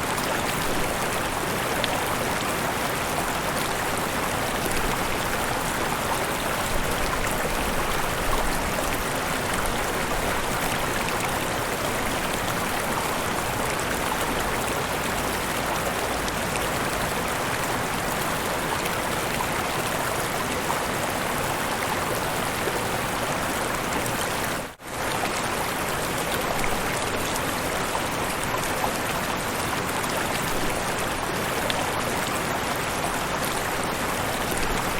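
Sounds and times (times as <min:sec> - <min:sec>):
river and waterfalls rushing: 0:00.0 - 0:34.9.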